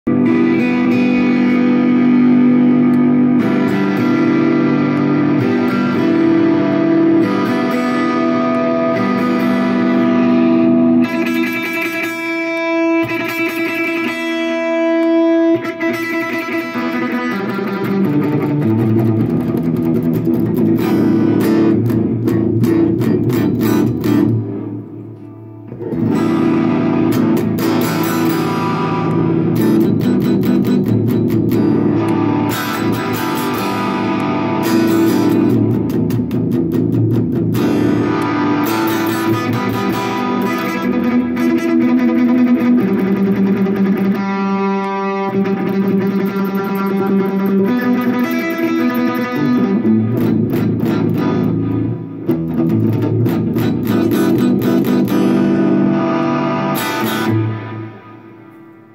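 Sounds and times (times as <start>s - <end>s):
electric guitar chords: 0.0s - 58.9s.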